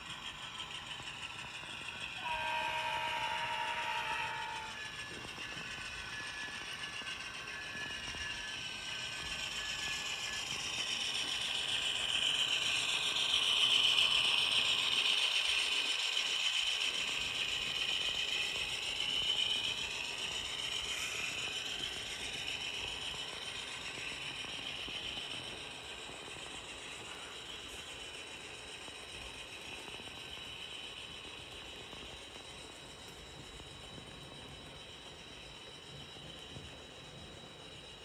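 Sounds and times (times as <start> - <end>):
model train rattling on rails: 0.0 - 38.0.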